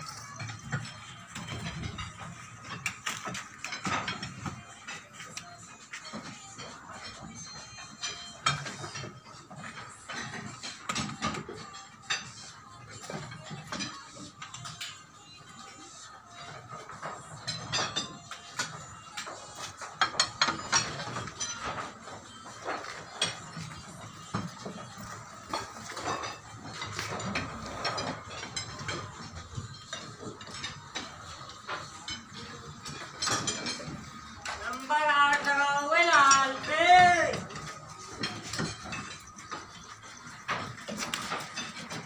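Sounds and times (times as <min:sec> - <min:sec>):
building work knocks and clinks: 0:00.0 - 0:15.2, 0:15.8 - 0:42.0
music playing: 0:00.0 - 0:42.0.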